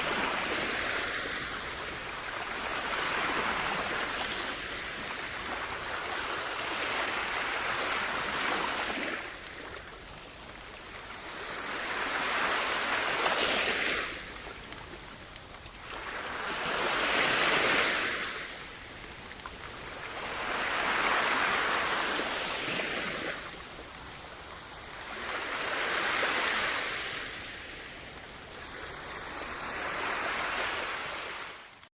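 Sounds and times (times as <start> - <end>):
sea waves breaking on beach: 0.0 - 31.9.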